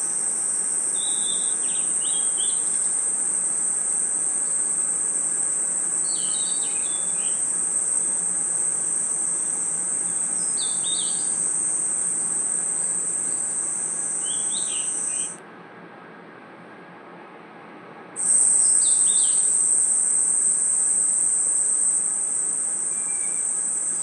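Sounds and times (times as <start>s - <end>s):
crickets trilling: 0.0s - 15.4s, 18.2s - 24.0s
low chirps: 0.8s - 15.4s, 18.2s - 24.0s.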